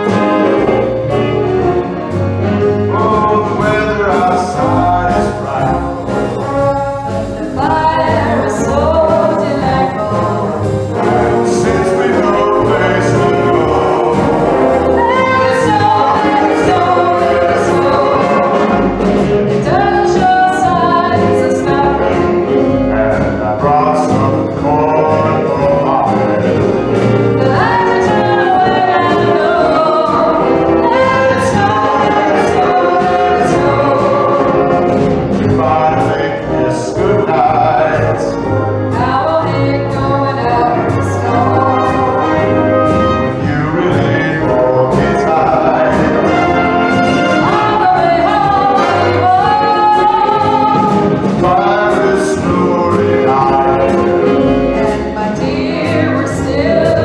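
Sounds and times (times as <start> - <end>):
steady drum beat: 0.0 - 57.0
wind band playing swing music: 0.0 - 57.0
voices singing: 2.9 - 57.0.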